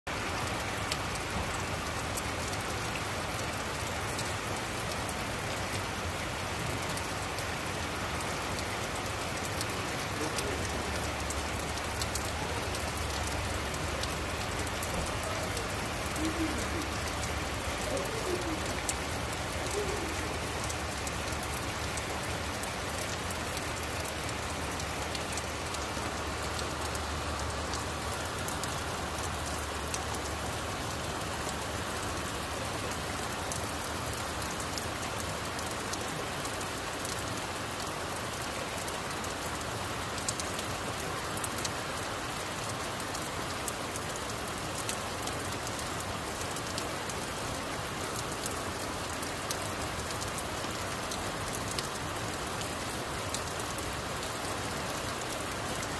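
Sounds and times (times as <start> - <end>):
heavy rain on street and cars: 0.1 - 55.9.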